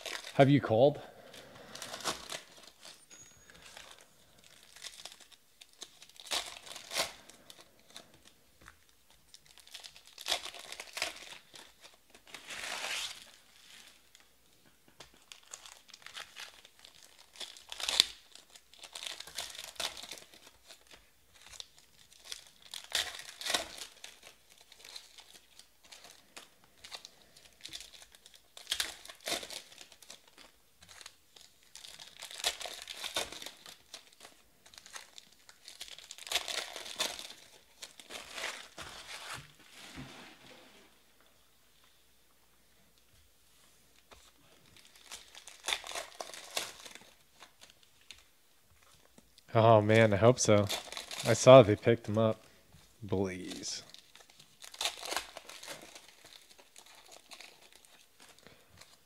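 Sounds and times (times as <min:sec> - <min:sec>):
foil wrappers tearing and crinkling: 0:00.0 - 0:00.4, 0:01.3 - 0:14.3, 0:15.0 - 0:40.0, 0:44.0 - 0:48.3, 0:50.0 - 0:51.6, 0:53.3 - 0:59.0.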